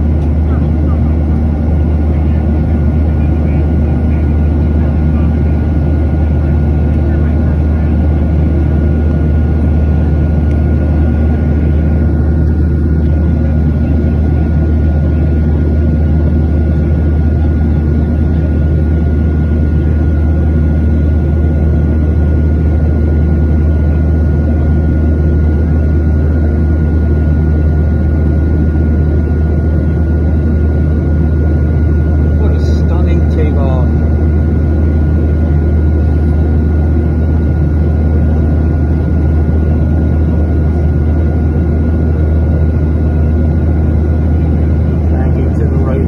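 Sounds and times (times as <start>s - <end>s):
airplane cabin rumble: 0.0s - 46.0s
jet engine whine: 0.0s - 46.0s.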